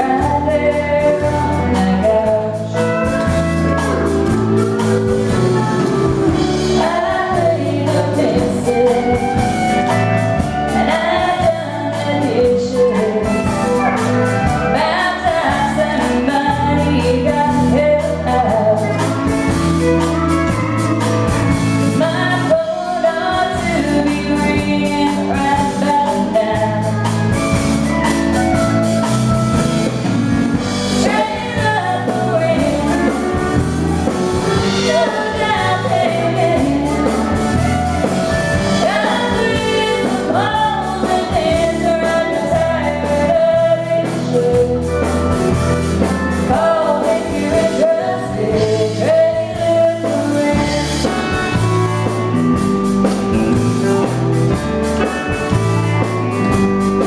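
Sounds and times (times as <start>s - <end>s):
woman singing into microphone: 0.0s - 27.2s, 30.7s - 45.5s, 46.4s - 52.2s
drums: 0.0s - 57.0s
electric bass: 0.0s - 57.0s
electric guitar: 0.0s - 57.0s.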